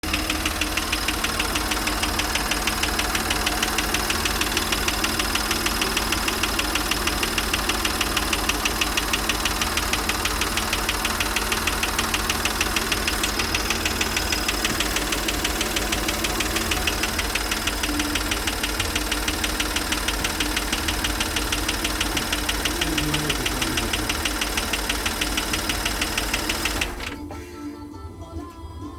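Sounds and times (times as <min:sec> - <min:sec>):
rapid engine knock: 0:00.0 - 0:27.2
car engine running: 0:00.0 - 0:27.3.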